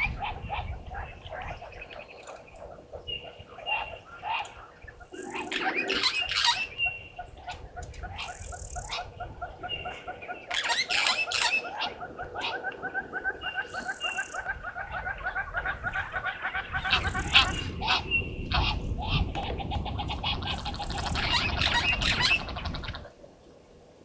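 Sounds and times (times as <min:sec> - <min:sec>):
wild dogs twittering: 0:00.0 - 0:23.1.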